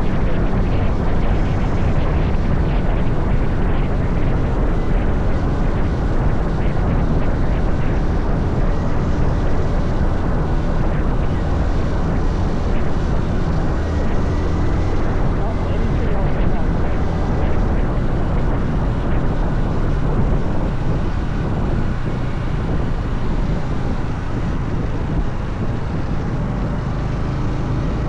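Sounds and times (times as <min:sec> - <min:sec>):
motorcycle engine cruising: 0:00.0 - 0:28.0
wind on microphone: 0:00.0 - 0:28.0.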